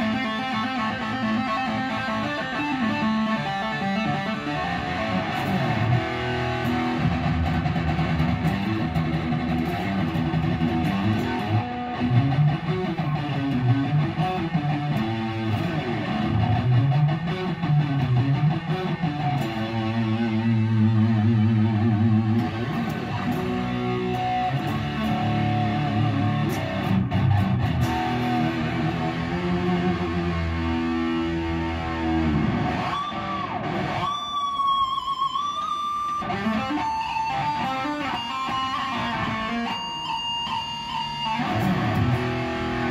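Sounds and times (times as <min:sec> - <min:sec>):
electric guitar lead: 0:00.0 - 0:42.9.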